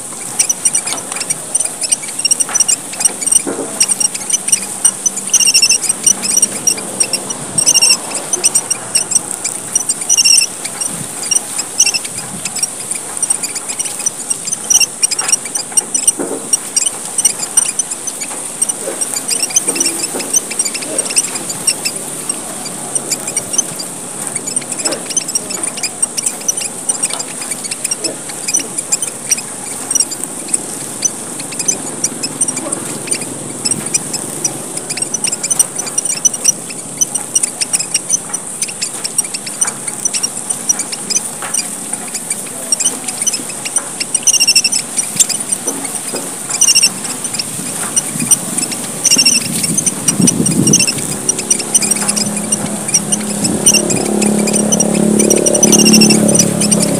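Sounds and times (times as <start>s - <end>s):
finches chattering: 0.0s - 56.9s.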